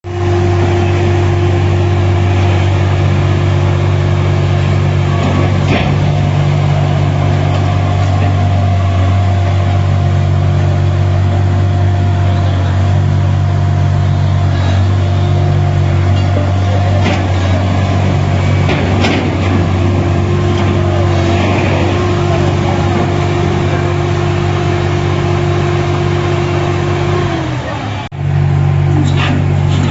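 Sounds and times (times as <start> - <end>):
truck engine droning: 0.0 - 29.9.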